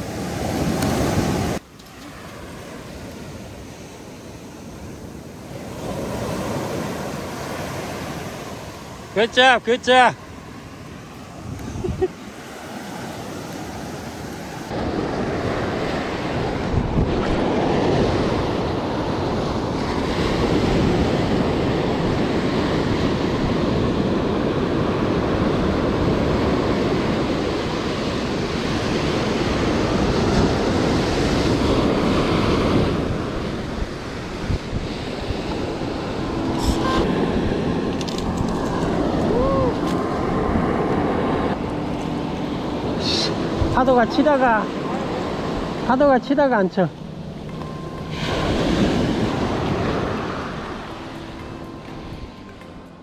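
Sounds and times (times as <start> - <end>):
surf washing up beach: 0.0 - 53.0.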